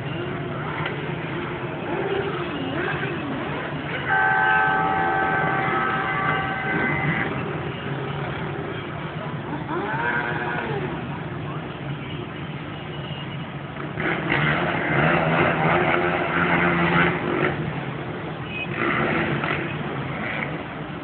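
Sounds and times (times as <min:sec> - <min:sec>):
motorcycle and quad engines revving: 0:00.0 - 0:11.5, 0:13.6 - 0:21.0.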